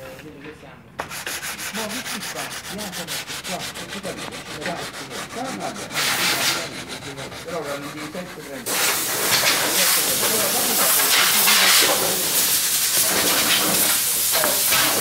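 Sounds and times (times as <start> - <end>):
sanding block rubbing on wood: 1.0 - 15.0.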